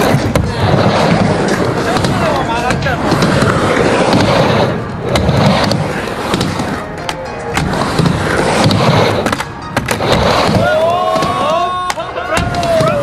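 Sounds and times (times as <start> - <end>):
background music: 0.0 - 13.0
skateboard wheels rolling: 0.0 - 13.0.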